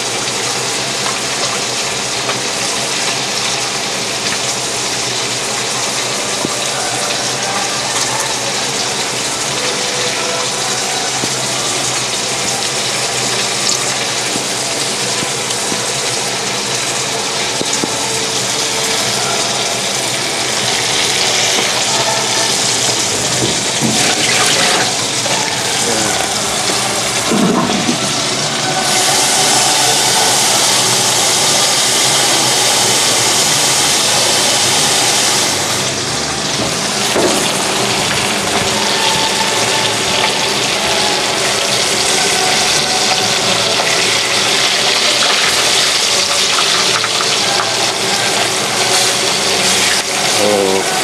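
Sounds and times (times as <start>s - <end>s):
fish frying in hot oil: 0.0s - 51.0s.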